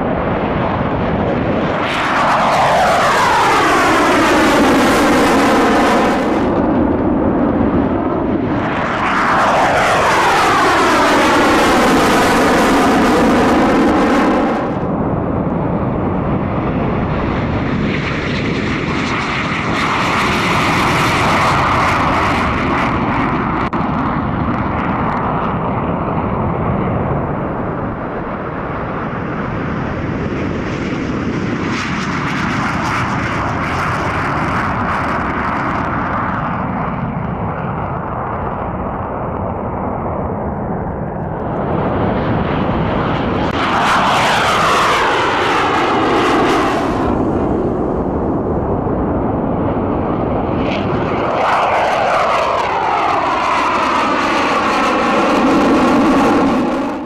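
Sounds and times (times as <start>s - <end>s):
fighter jet engines roaring: 0.0s - 57.0s.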